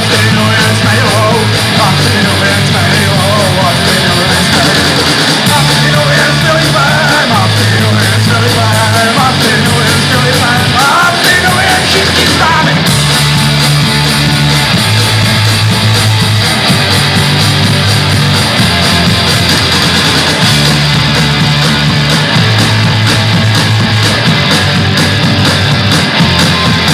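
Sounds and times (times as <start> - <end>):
live punk rock band: 0.0 - 26.9.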